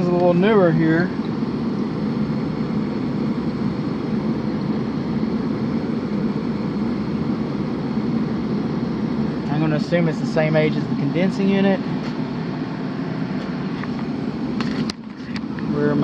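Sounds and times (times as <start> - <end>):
air handler hum and air rush: 0.0 - 16.0.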